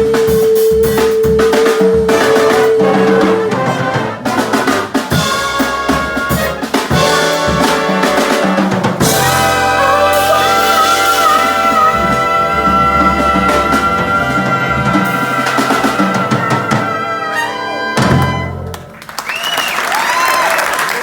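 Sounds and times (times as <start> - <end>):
drum fill on snare and kick: 0.0 - 18.8
jazz big band playing: 0.0 - 19.1.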